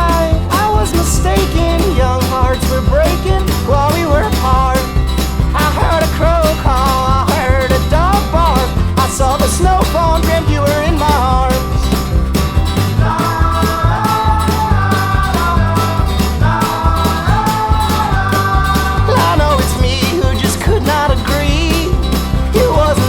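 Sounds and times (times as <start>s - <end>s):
background music with beat and bass: 0.0s - 23.0s.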